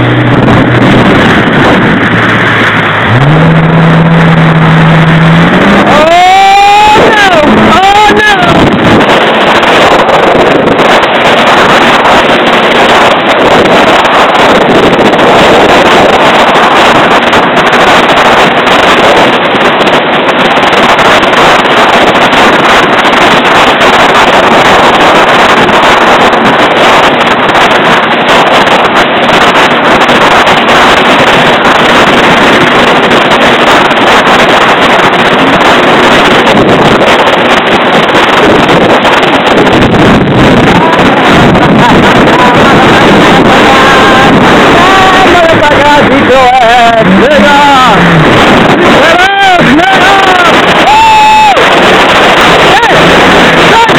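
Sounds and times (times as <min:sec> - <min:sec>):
jet ski engine hum: 0:00.0 - 0:53.9
wind noise on microphone: 0:00.0 - 0:53.9.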